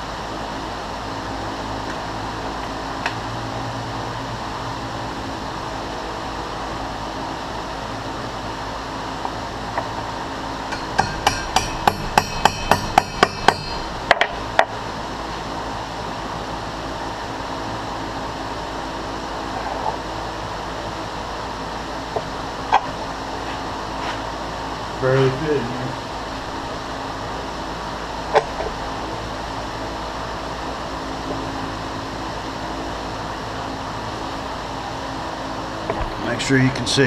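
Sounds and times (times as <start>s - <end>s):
steady shop hum: 0.0s - 37.0s.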